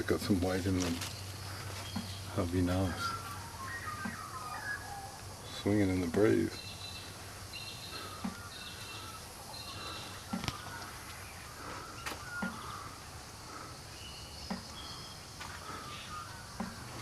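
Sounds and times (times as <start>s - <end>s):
birds whistling: 0.0s - 17.0s.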